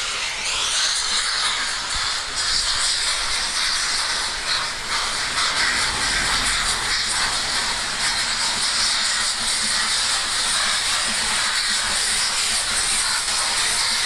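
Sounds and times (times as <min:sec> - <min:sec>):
steam hissing: 0:00.0 - 0:14.0
steam locomotive exhaust beats: 0:00.0 - 0:14.0.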